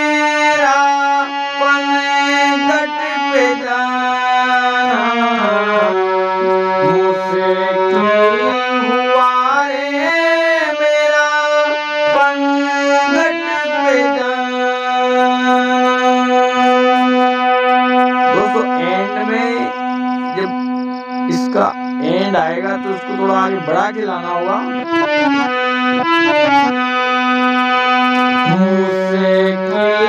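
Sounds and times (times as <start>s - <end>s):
harmonium melody: 0.0s - 30.0s.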